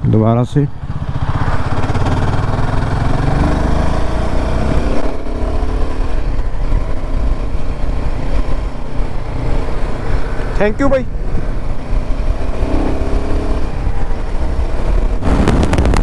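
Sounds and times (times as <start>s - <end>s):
motorcycle engine accelerating: 0.7s - 16.0s
wind rushing over microphone: 0.7s - 16.0s.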